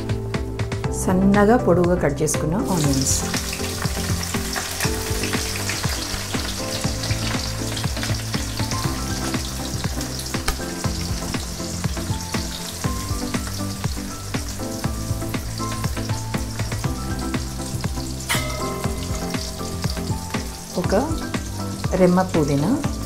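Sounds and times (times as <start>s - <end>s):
onions sizzling in hot oil: 2.6s - 23.0s.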